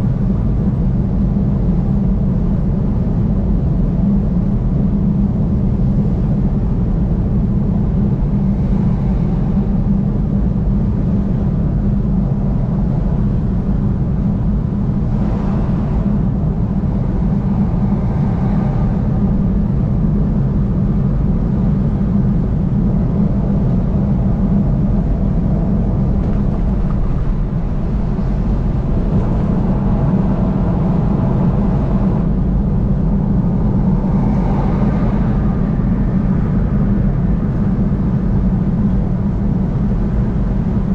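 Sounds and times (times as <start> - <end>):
vehicle road noise at highway speed: 0.0 - 40.9.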